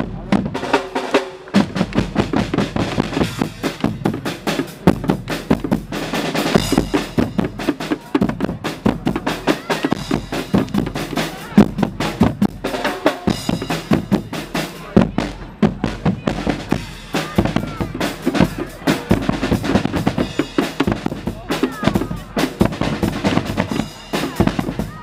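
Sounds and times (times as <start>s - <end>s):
bass drums: 0.0s - 25.0s
cymbals: 0.0s - 25.0s
snare drum: 0.2s - 25.0s.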